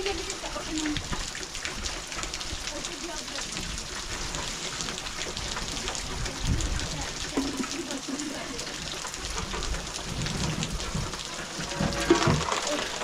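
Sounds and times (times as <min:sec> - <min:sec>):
low rumbles: 0:00.0 - 0:13.0
rain pattering: 0:00.0 - 0:13.0.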